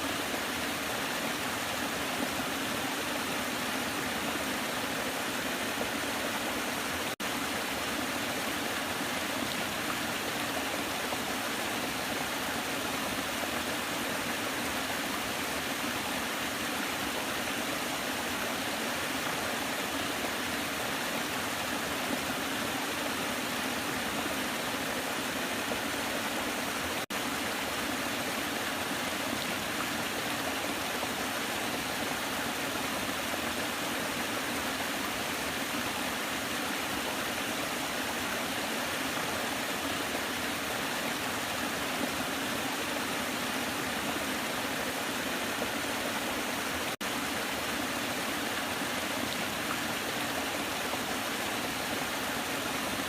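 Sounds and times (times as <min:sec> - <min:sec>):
waterfall rushing water: 0:00.0 - 0:53.0.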